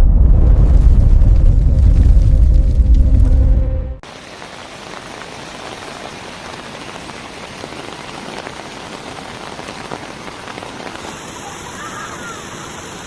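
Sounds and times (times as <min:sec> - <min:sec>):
heavy rain pattering: 0:00.0 - 0:13.0.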